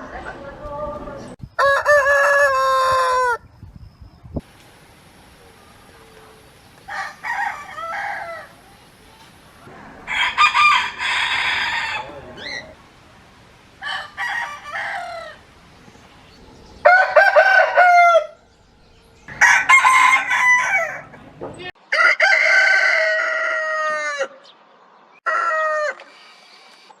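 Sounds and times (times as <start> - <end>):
roosters crowing: 1.6 - 3.4, 5.2 - 24.5, 25.2 - 26.1.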